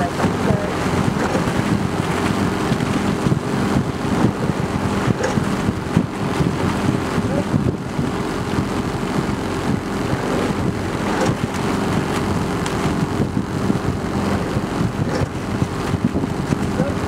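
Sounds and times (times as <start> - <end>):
outboard motor drone: 0.0 - 17.0.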